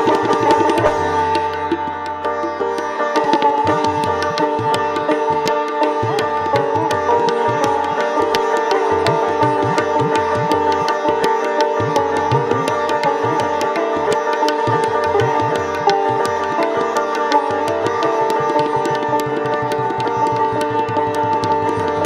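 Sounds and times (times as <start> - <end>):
plucked sitar: 0.0 - 22.0
tabla drumming: 0.0 - 22.0.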